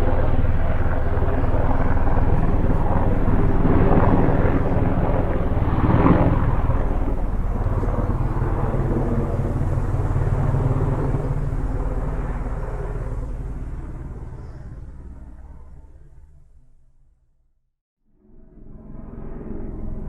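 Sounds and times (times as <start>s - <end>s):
distant helicopter flying: 0.0s - 17.4s, 18.1s - 20.0s.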